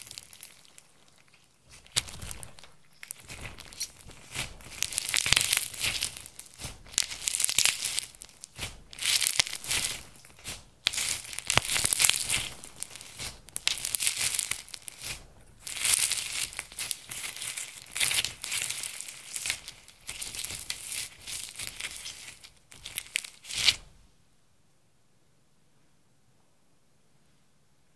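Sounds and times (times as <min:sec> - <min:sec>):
hands squishing wet slime: 0:00.0 - 0:23.9.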